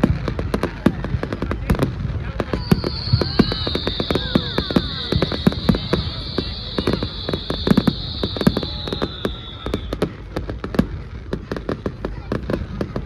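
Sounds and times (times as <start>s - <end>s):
fireworks crackling and popping: 0.0s - 13.0s
fireworks hissing spray: 0.0s - 13.0s.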